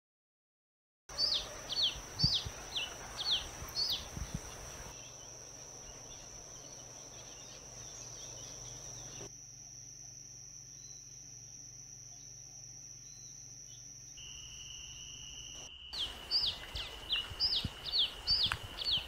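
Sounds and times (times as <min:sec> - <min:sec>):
insect drone: 0:01.1 - 0:19.0.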